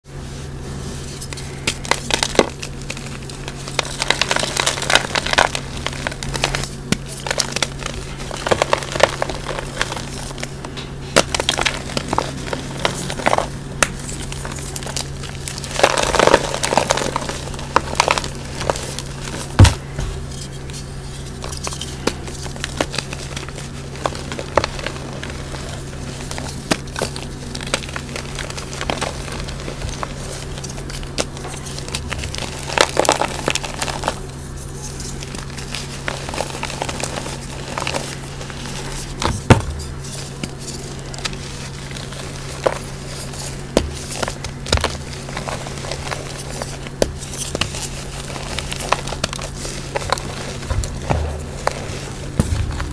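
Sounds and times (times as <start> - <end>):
steady low hum: 0.0 - 52.9
chalk crunching and crumbling: 0.2 - 52.9.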